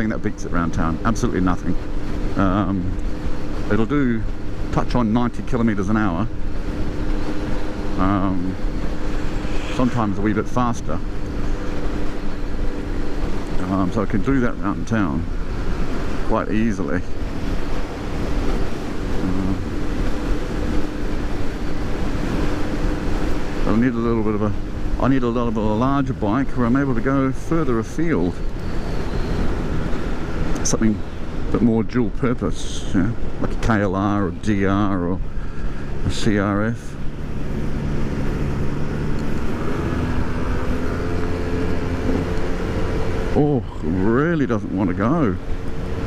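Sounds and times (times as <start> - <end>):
wind rush on microphone: 0.0 - 46.0
scooter engine droning: 1.8 - 31.6, 35.0 - 46.0.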